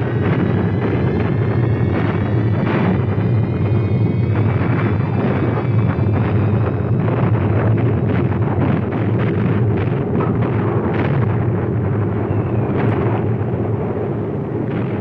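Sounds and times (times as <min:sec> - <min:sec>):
bomber engines droning: 0:00.0 - 0:15.0
muffled explosions: 0:00.0 - 0:15.0.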